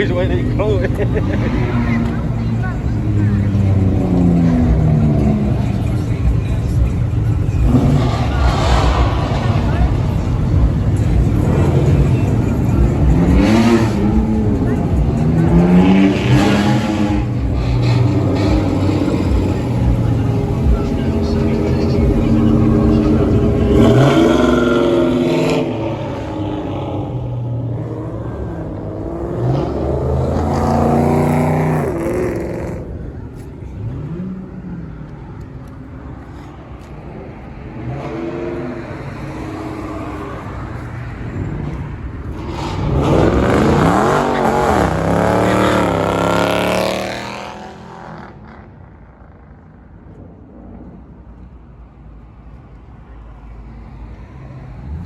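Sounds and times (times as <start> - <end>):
car engines revving past: 0.0 - 51.6.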